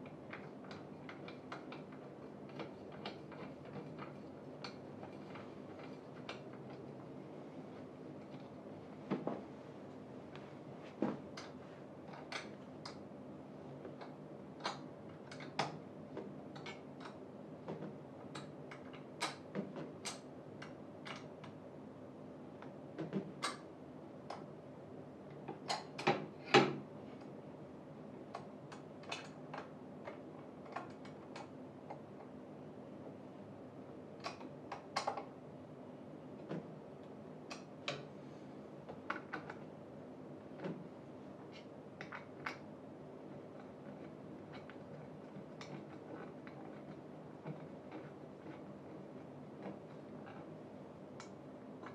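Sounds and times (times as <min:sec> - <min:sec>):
faint steady hum: 0:00.0 - 0:51.9.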